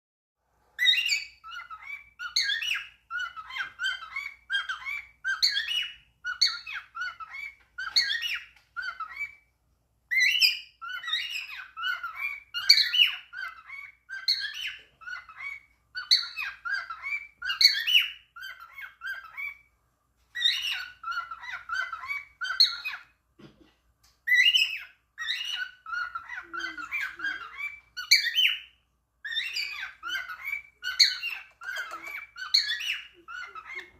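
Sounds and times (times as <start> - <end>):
cockatiel chattering: 0.8 - 9.4, 10.1 - 19.6, 20.4 - 23.1, 24.3 - 33.9.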